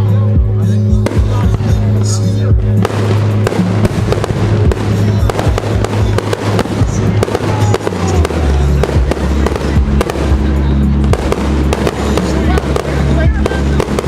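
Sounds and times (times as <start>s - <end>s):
music with bass notes: 0.0s - 14.0s
firework bangs and crackles: 0.8s - 14.0s.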